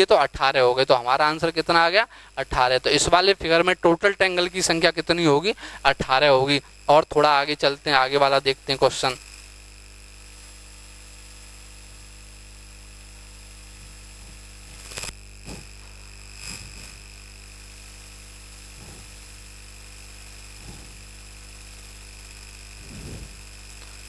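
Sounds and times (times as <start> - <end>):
electrical mains hum: 0.0 - 24.0
faint high whine: 0.0 - 24.0.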